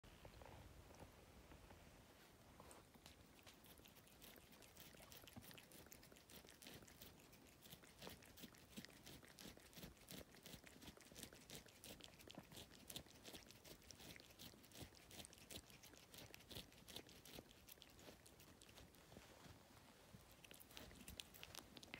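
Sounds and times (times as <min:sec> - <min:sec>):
cat chewing: 0:02.5 - 0:21.9.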